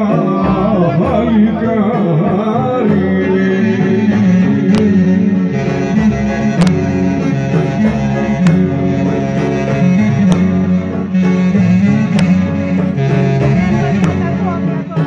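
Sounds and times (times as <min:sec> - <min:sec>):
live band dance music: 0:00.0 - 0:15.0.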